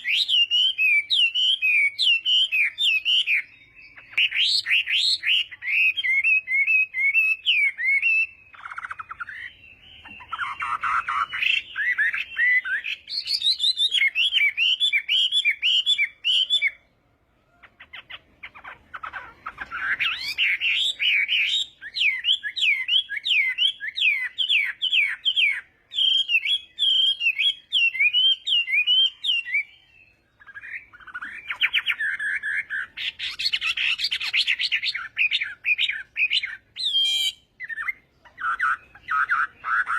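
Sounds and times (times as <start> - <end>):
laughingthrush singing whistled song: 0.0 - 39.9.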